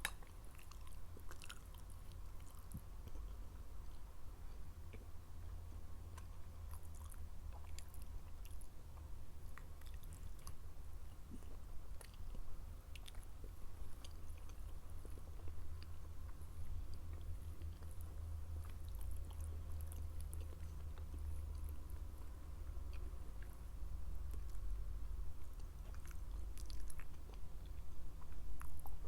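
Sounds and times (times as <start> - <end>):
chewing soft food: 0.0 - 29.0
low steady rumble: 0.0 - 29.0.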